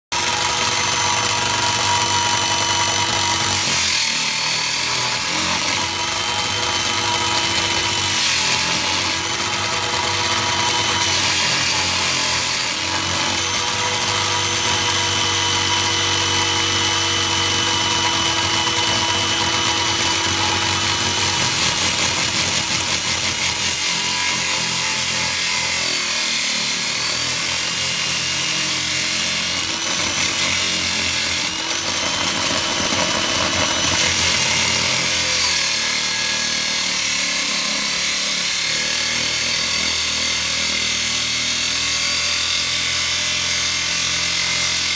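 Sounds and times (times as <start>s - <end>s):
core drill grinding into brick: 0.1s - 44.9s.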